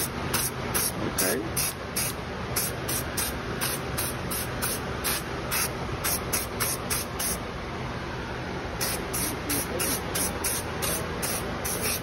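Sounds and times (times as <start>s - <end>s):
aerosol can spraying: 0.0s - 1.0s, 1.6s - 7.4s, 8.8s - 12.0s.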